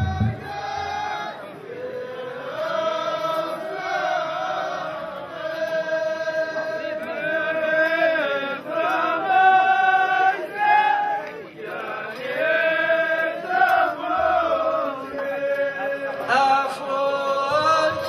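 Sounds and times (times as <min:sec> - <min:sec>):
men chanting a song: 0:00.0 - 0:18.0.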